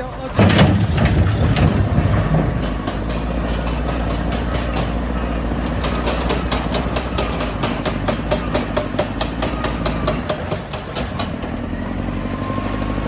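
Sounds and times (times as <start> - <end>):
heavy machine engine idling: 0.0 - 13.0.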